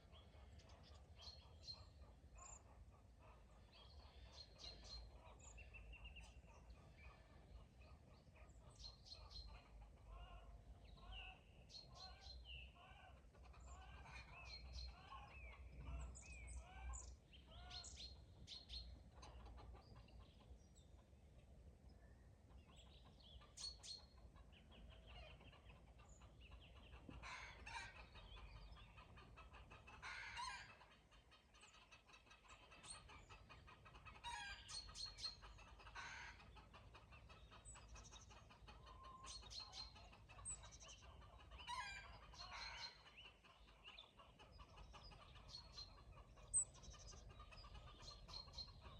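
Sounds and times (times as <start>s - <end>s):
faint chickens clucking: 0.0s - 48.9s
songbirds chirping and calling: 0.0s - 48.9s.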